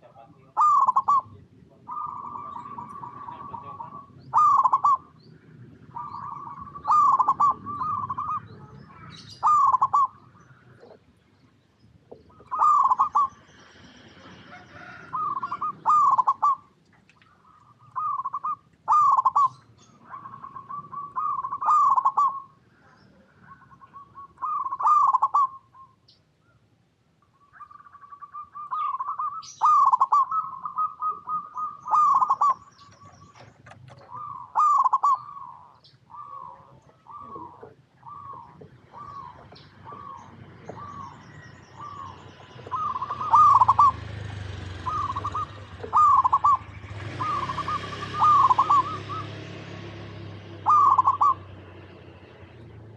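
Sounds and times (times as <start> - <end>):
dove cooing: 0.0 - 11.1, 12.0 - 26.0, 27.5 - 52.6.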